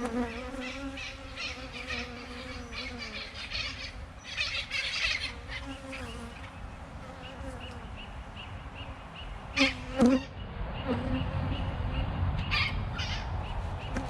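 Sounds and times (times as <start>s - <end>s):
honeybees buzzing: 0.0s - 11.9s.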